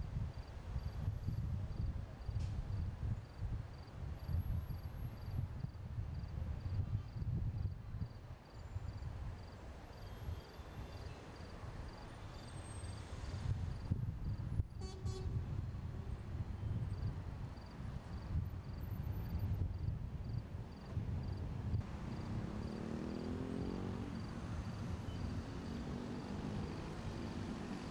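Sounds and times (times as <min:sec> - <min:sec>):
low rumble of city traffic: 0:00.0 - 0:27.9.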